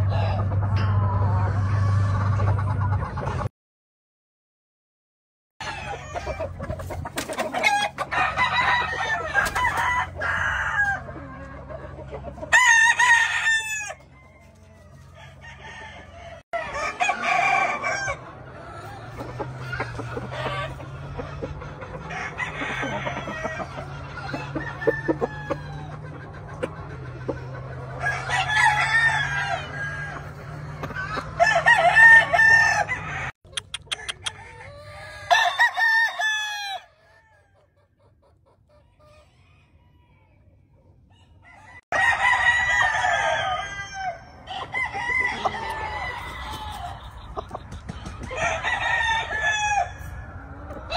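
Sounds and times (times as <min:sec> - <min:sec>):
roosters crowing: 0:05.6 - 0:37.8, 0:38.8 - 0:50.9.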